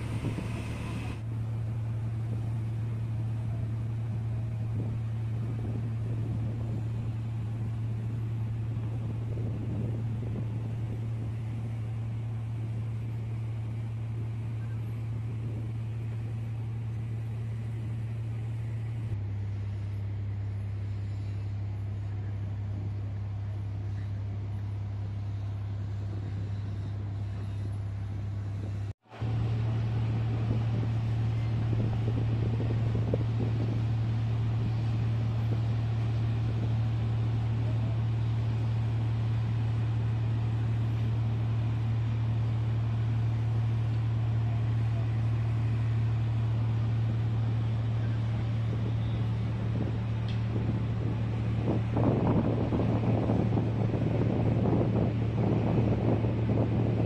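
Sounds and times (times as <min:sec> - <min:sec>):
low drone of diesel machinery: 0:00.0 - 0:57.0.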